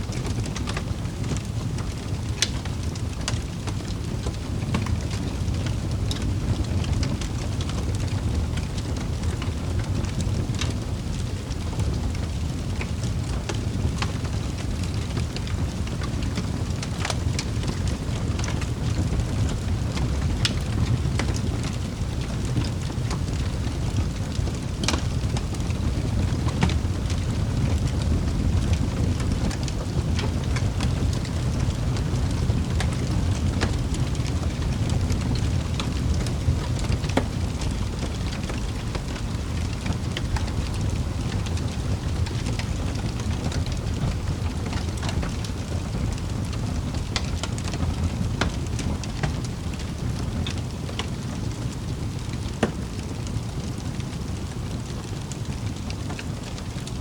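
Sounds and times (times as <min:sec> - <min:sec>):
wood fire burning: 0:00.0 - 0:57.0.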